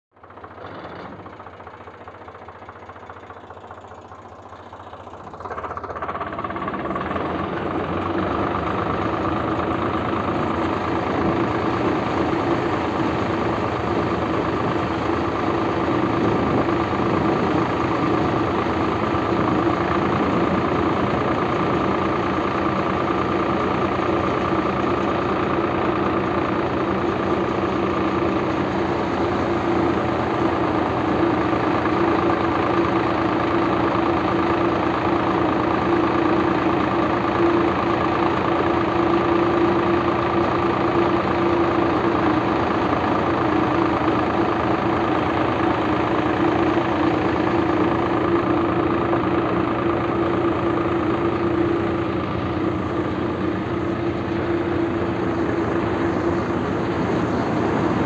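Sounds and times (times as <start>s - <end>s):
tractor engine noise: 0.1s - 58.0s
thresher mechanical whine: 3.2s - 58.0s.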